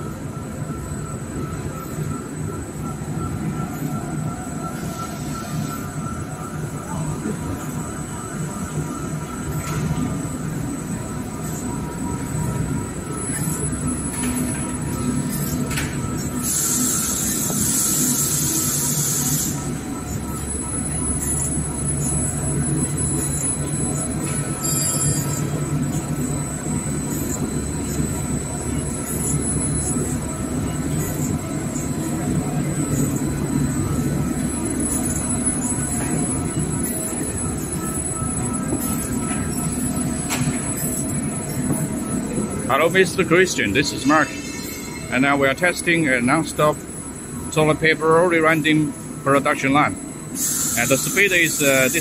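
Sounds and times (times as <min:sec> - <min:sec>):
machinery rumble with high whine: 0:00.0 - 0:52.0.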